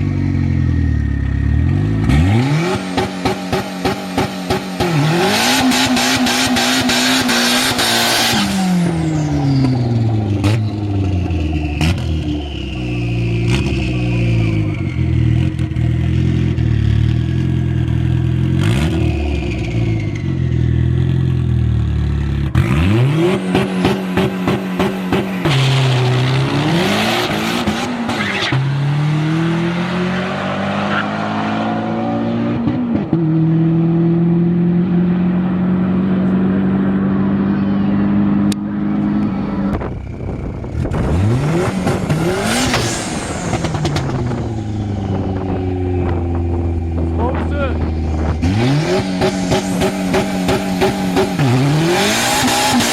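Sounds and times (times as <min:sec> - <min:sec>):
car engine running and revving: 0:00.0 - 0:52.9.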